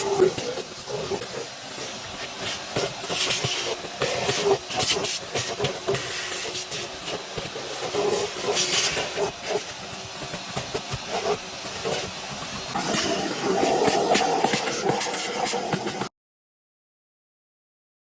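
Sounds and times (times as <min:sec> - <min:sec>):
compressed air hissing: 0:00.0 - 0:16.1.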